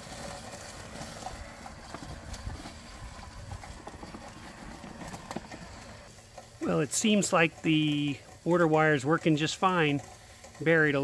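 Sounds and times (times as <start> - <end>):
robot lawn mower running: 0.0 - 11.0.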